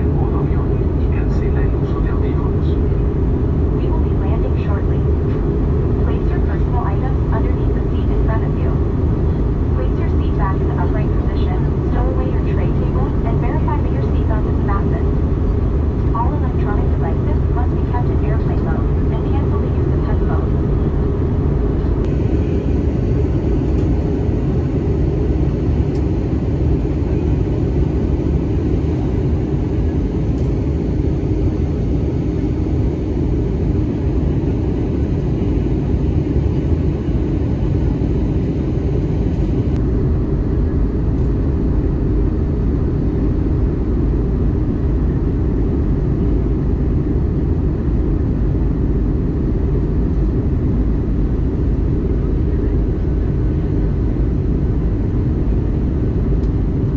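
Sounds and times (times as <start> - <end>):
aircraft cabin engine rumble: 0.0 - 56.9.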